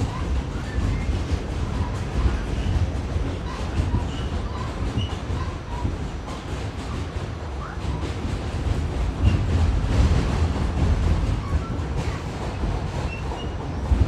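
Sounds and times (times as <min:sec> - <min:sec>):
subway train rumbling on track: 0:00.0 - 0:14.0.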